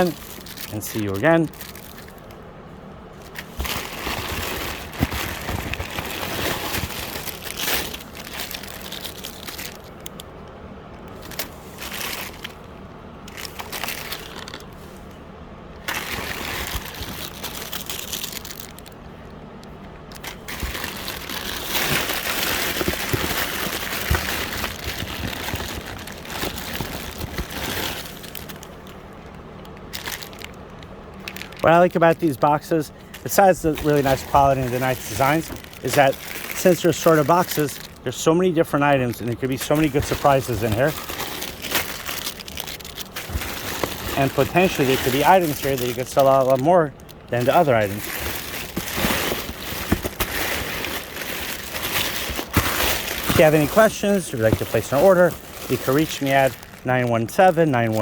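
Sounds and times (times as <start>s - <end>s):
jewelry rustling and crinkling: 0.0s - 2.4s, 3.2s - 10.2s, 11.0s - 15.1s, 15.8s - 58.0s.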